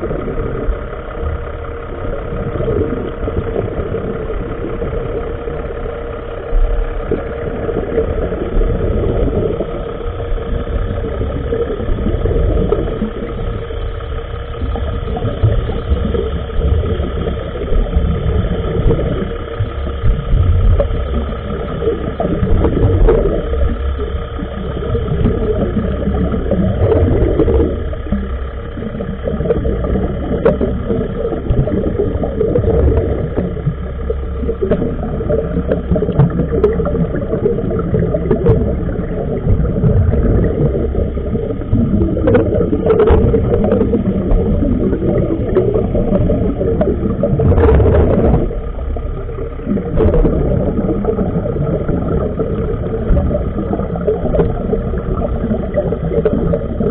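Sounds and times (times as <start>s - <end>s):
muffled underwater machinery hum: 0.0s - 56.9s.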